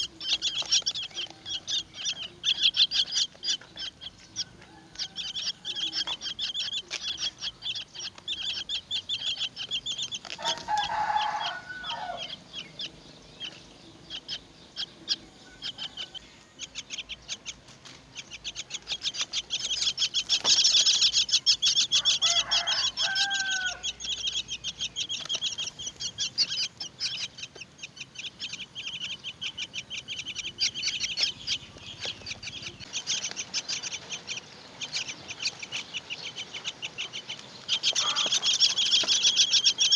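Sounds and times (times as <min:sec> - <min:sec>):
harsh bird calls: 0:00.0 - 0:39.9
nestlings begging with high chirps: 0:00.0 - 0:39.9.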